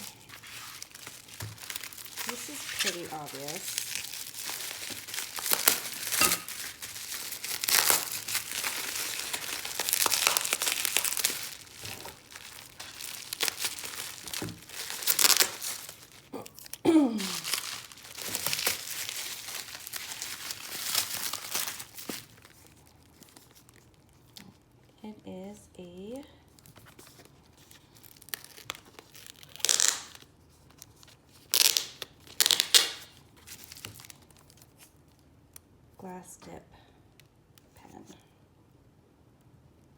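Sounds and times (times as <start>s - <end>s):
packaging crinkling and rustling: 0.0s - 24.9s, 26.5s - 35.6s.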